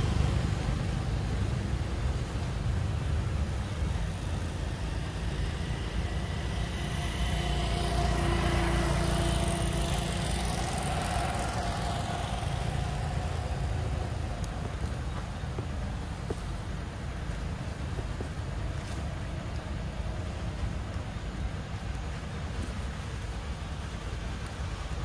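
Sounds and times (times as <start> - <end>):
faint engine drone: 0.0 - 25.0
steady low rumble: 0.0 - 25.0.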